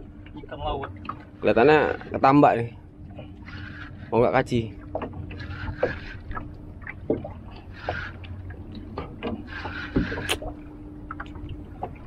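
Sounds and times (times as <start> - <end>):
faint steady hum: 0.0 - 12.0
water sloshing against boat hull: 0.0 - 12.0.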